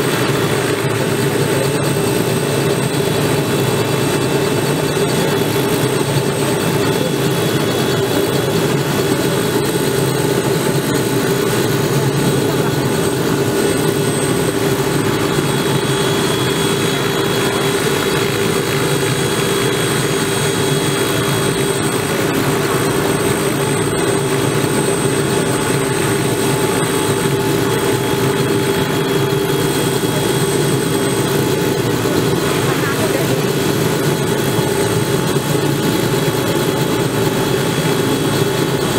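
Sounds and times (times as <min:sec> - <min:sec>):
helicopter rotor humming: 0:00.0 - 0:38.9
helicopter turbine engine whine: 0:00.0 - 0:38.9.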